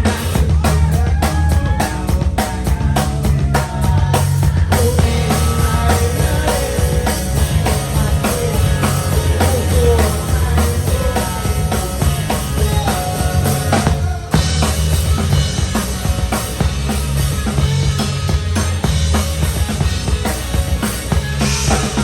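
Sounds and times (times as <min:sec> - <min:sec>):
heavy bass drum: 0:00.0 - 0:22.0
live rock band playing: 0:00.0 - 0:22.0.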